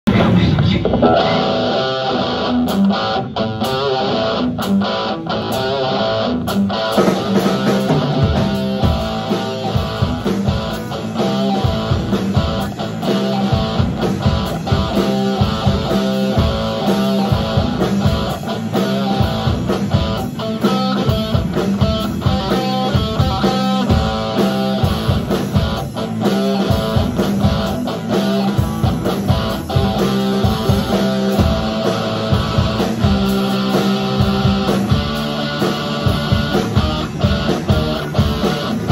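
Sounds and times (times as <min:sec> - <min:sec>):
live rock band: 0:00.1 - 0:38.9.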